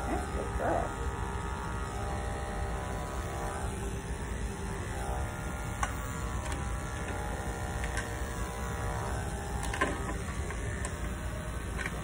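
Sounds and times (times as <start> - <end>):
electric clipper humming: 0.0 - 12.0.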